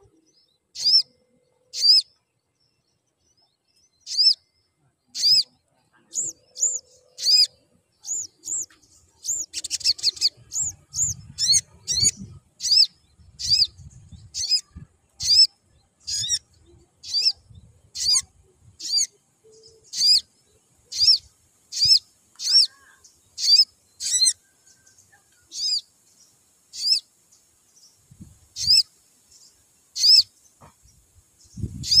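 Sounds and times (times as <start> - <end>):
sunbird chirping: 0.0 - 32.0.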